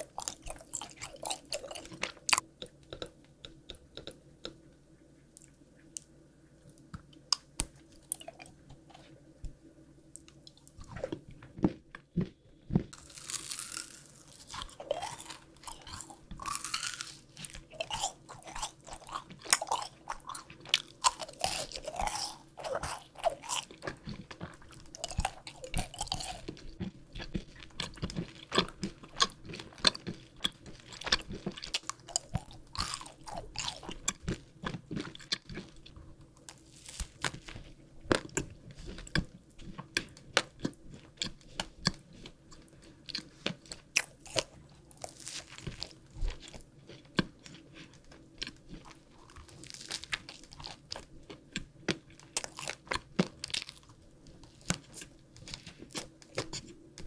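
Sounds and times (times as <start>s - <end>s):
crunchy chewing: 0.0s - 9.3s, 10.1s - 57.0s.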